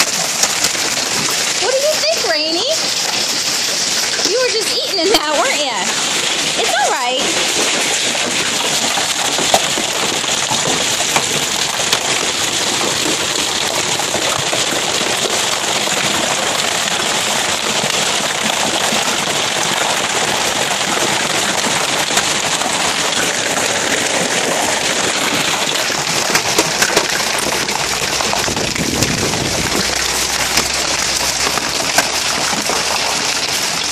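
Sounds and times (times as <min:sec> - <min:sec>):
hailstone cracks: 0:00.0 - 0:01.7, 0:02.8 - 0:33.9
hail and heavy rain pelting: 0:00.0 - 0:33.9.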